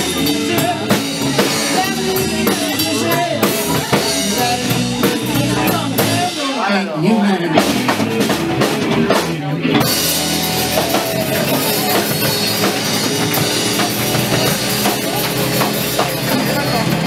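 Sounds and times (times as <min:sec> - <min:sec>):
drum kit: 0:00.0 - 0:06.8, 0:07.4 - 0:17.0
electric guitars: 0:00.0 - 0:17.0.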